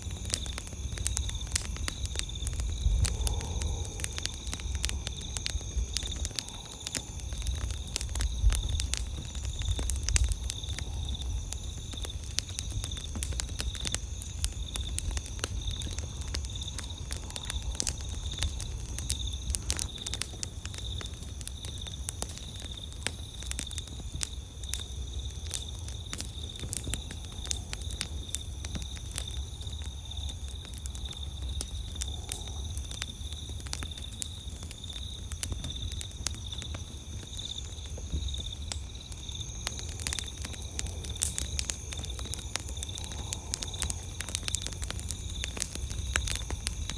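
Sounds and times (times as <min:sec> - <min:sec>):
campfire crackling and popping: 0:00.0 - 0:46.9
night insects trilling: 0:00.0 - 0:46.9.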